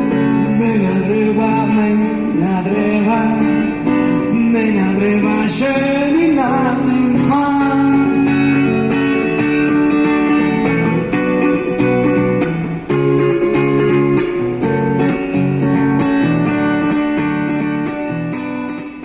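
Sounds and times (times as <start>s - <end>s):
guitar strumming and plucking: 0.0s - 19.0s.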